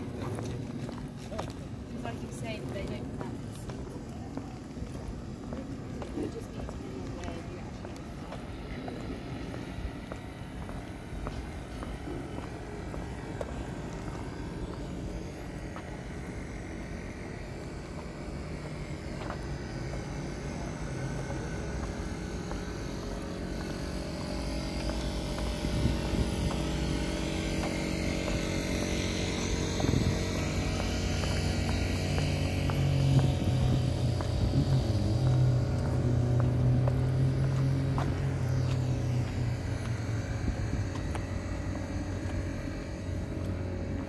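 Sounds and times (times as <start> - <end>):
low engine hum with steady tones: 0.0 - 44.0.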